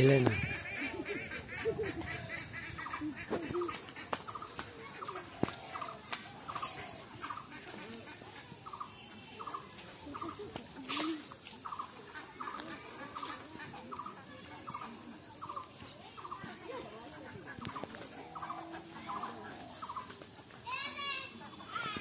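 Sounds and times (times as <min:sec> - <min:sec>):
ducks quacking: 0:00.0 - 0:20.6.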